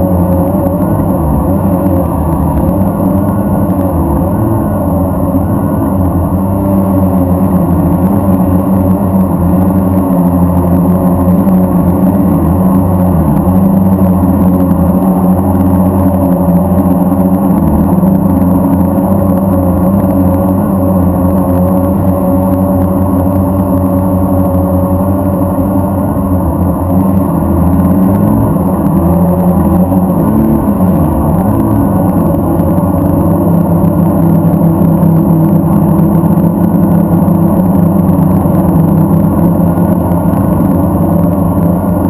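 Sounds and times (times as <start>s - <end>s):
quadcopter motors buzzing: 0.0s - 42.0s.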